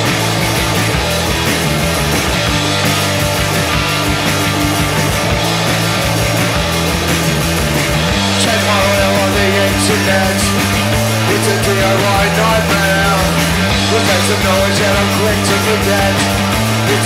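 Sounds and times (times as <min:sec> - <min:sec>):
punk rock band playing live: 0:00.0 - 0:17.0.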